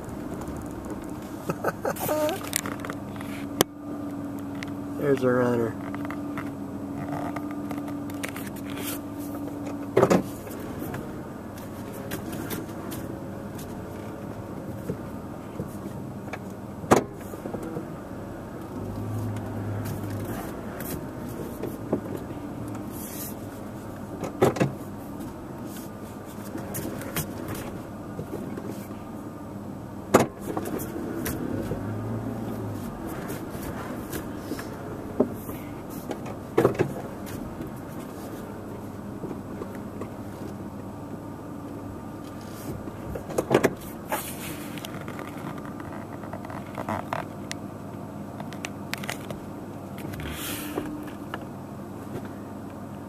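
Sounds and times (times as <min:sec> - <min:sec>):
background rumble and hiss: 0:00.0 - 0:53.0.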